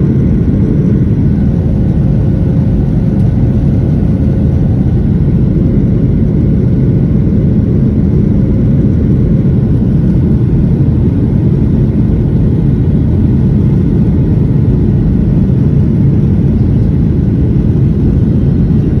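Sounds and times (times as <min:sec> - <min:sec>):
faint hum: 0:00.0 - 0:19.0
jet cabin engine rumble: 0:00.0 - 0:19.0.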